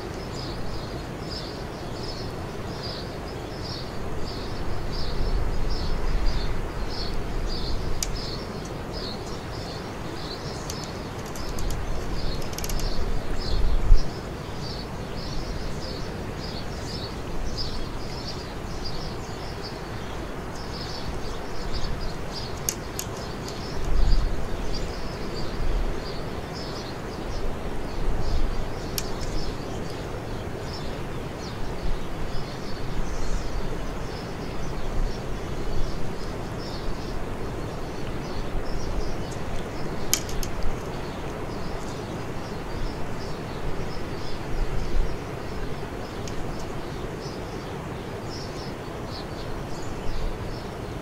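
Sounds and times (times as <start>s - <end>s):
small birds chirping: 0.0s - 51.0s
steady background hiss: 0.0s - 51.0s.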